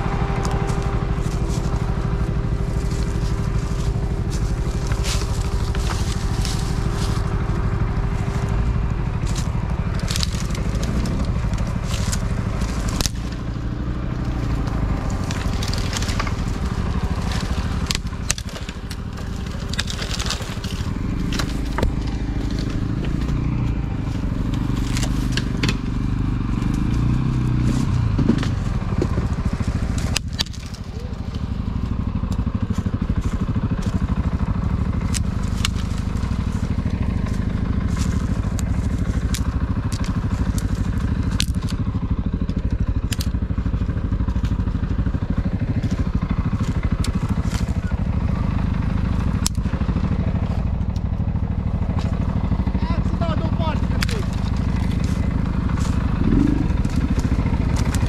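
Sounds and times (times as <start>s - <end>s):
atv engine running under load: 0.0s - 58.0s
sharp cracks and knocks: 0.2s - 58.0s.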